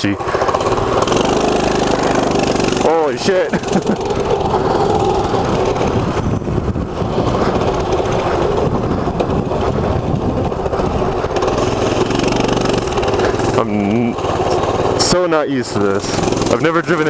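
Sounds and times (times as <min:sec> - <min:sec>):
mini bike engine running: 0:00.0 - 0:17.0.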